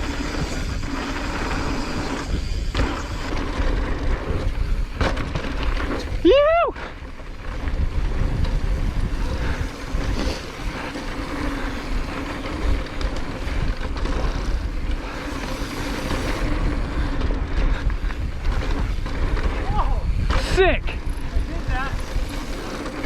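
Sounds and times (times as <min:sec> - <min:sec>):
bike rattling over rough ground: 0:00.0 - 0:23.0
tyres on dirt trail: 0:00.0 - 0:23.0
wind rumble on microphone: 0:00.0 - 0:23.0.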